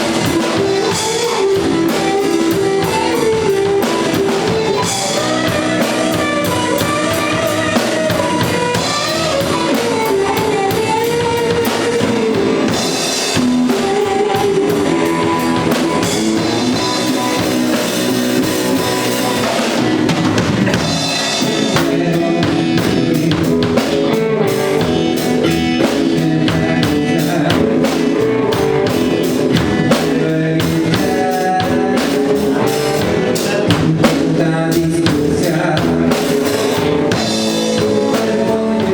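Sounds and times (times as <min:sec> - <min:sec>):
blues guitar: 0:00.0 - 0:38.9
drum kit beat: 0:00.0 - 0:38.9.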